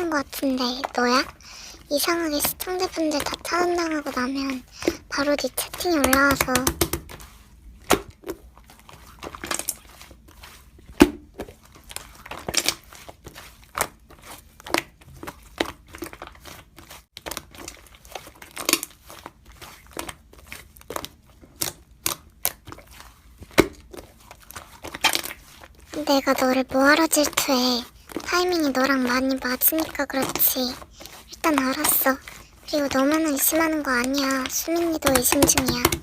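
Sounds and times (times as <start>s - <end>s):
slime squished by hand: 0.0s - 36.0s.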